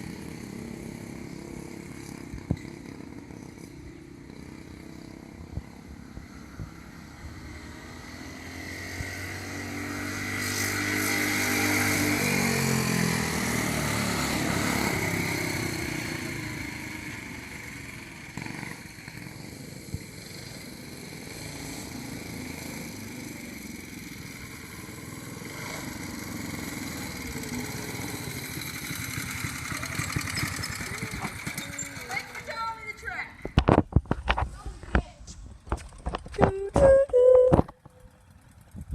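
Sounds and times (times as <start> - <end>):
small engines passing by: 0.0 - 33.6, 37.1 - 38.9.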